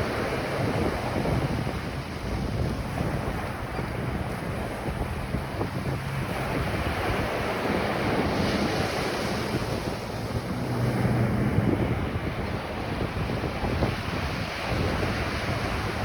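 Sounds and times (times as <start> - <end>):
ocean waves breaking on beach: 0.0 - 16.0
wind rumble on microphone: 0.0 - 16.0.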